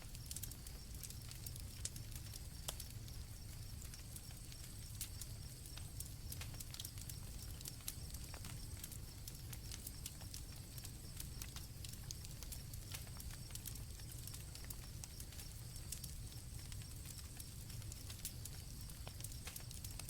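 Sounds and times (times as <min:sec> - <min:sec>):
campfire crackling: 0:00.0 - 0:20.0
crickets chirring: 0:00.0 - 0:20.0
low rumble of flames: 0:00.0 - 0:20.0.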